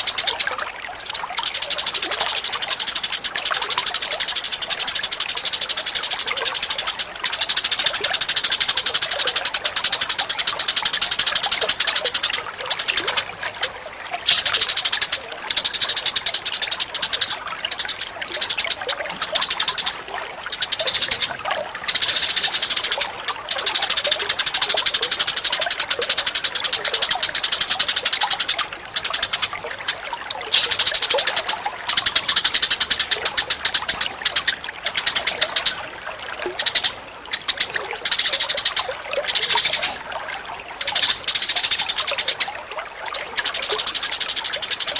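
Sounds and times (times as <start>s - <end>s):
songbird chattering trill: 0.0s - 35.8s, 36.6s - 40.0s, 40.8s - 44.9s
faint running water: 0.0s - 44.9s.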